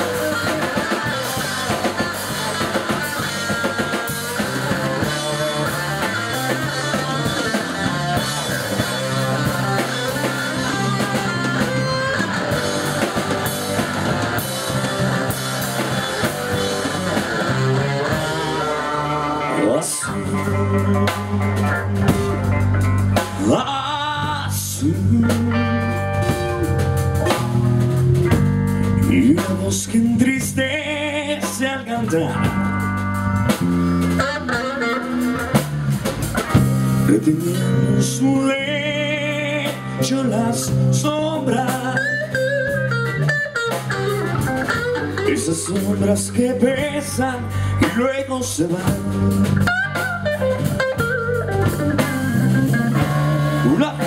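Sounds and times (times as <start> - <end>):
rock band playing: 0.0 - 54.0
sliding lead guitar notes: 0.0 - 54.0.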